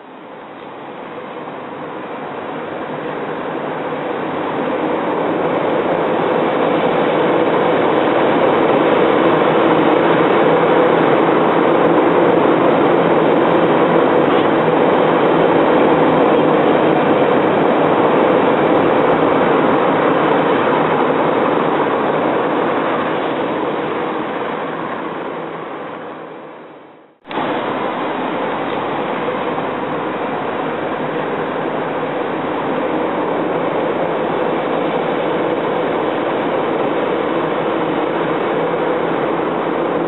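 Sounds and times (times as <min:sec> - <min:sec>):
diesel excavator engine droning: 0:00.0 - 0:40.0.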